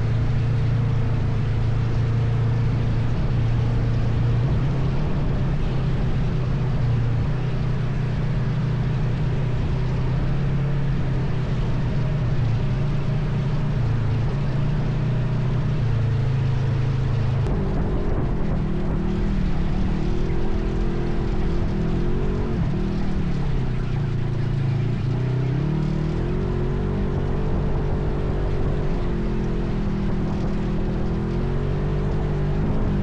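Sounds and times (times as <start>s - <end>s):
quad bike engine running: 0.0s - 33.0s
steady rush of noise: 0.0s - 33.0s.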